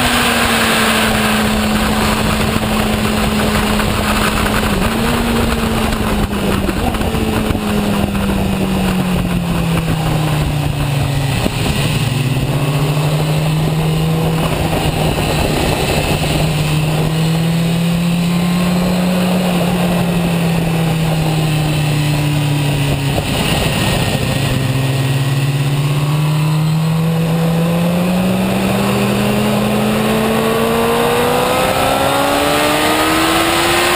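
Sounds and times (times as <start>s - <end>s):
motorcycle engine accelerating: 0.0s - 33.9s
wind rushing over microphone: 0.0s - 33.9s.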